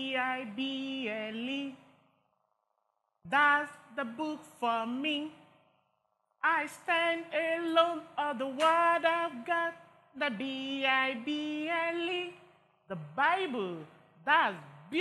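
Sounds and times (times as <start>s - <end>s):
woman singing a worship song: 0.0s - 2.0s, 3.3s - 5.6s, 6.4s - 15.0s.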